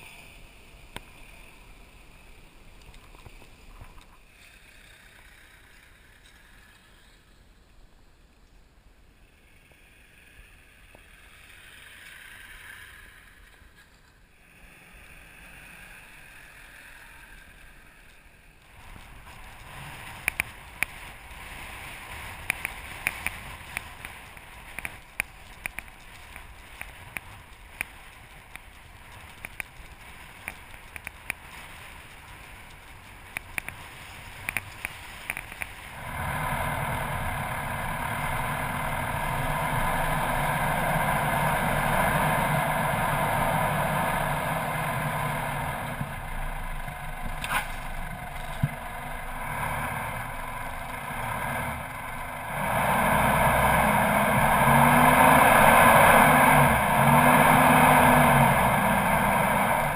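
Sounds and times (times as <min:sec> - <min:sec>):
wind: 0:00.0 - 0:59.9
vehicle engine running: 0:09.7 - 0:59.9.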